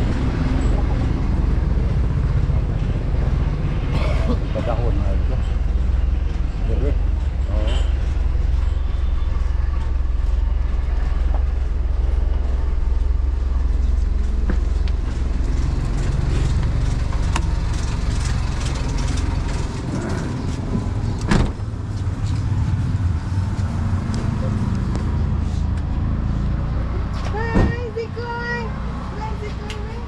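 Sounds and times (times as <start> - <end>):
road and wind rumble: 0.0 - 30.0.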